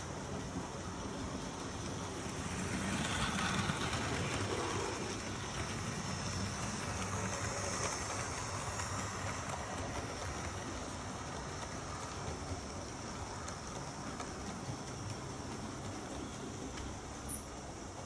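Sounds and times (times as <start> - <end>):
model trains whirring and rattling: 0.0 - 18.0.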